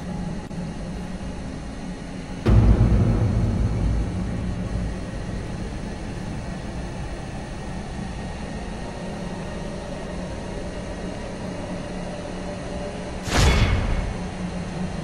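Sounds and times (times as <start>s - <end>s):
dark ambient drone: 0.0s - 15.0s.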